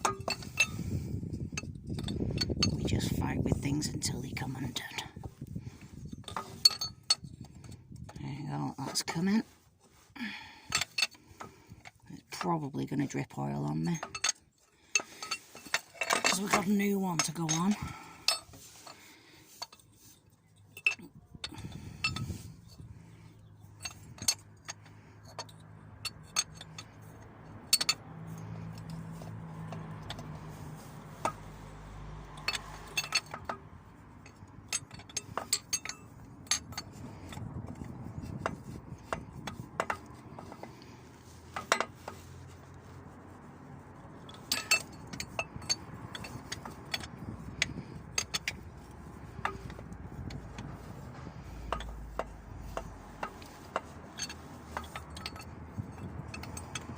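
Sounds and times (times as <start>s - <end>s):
hand tools clinking on metal: 0.0s - 9.4s, 10.2s - 43.4s, 44.0s - 56.9s.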